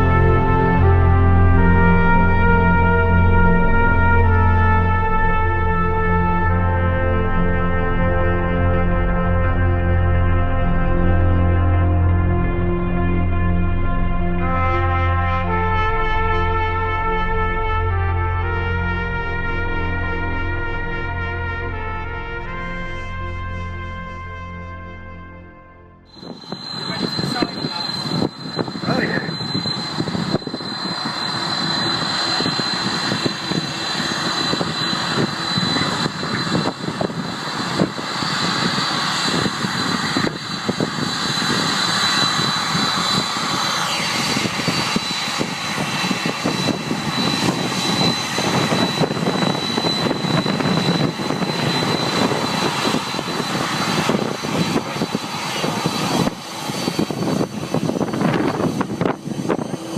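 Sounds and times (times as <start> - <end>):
jet engines running with whine: 0.0 - 24.9, 26.0 - 59.9.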